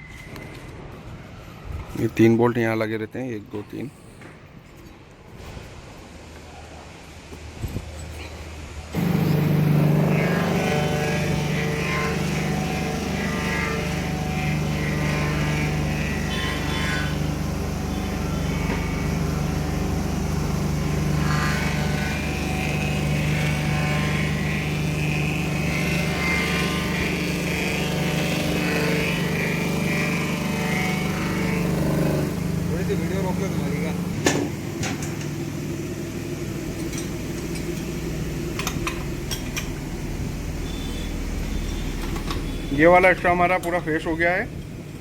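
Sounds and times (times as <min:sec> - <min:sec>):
steady mechanical drone: 0:08.2 - 0:45.0.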